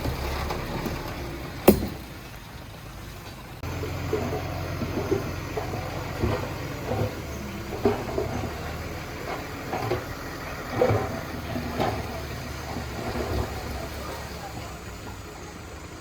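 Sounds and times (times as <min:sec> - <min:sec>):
machine clanks and knocks: 0:00.0 - 0:02.2, 0:03.8 - 0:15.2
diesel engine running: 0:00.0 - 0:16.0.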